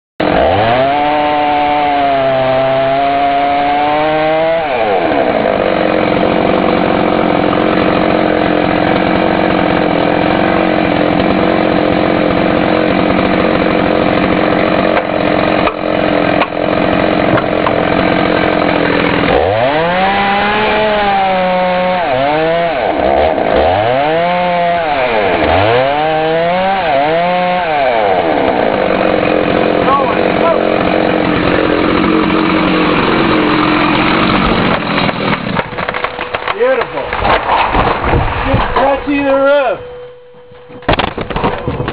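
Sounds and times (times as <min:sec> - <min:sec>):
chainsaw revving and cutting wood: 0:00.2 - 0:40.3.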